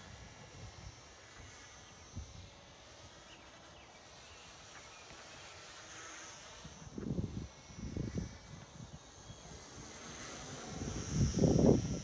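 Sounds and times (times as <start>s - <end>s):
distant model plane motor buzz: 0.0s - 12.0s.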